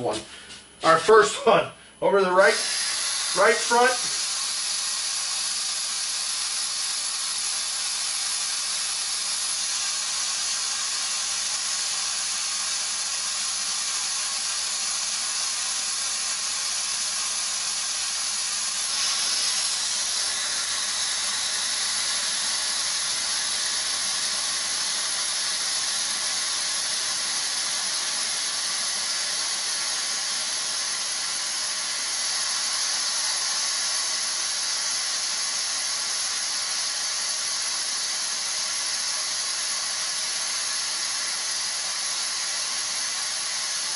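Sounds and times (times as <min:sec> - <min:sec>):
air hissing from tire: 0:02.4 - 0:43.9.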